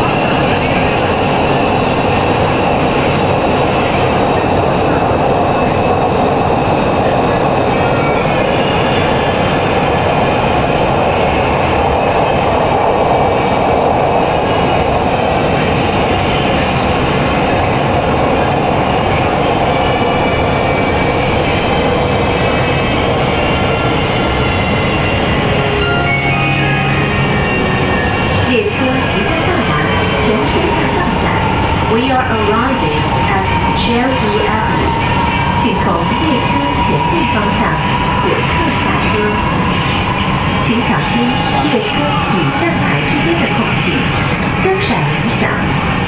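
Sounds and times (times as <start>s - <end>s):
subway car rumbling in tunnel: 0.0s - 46.0s.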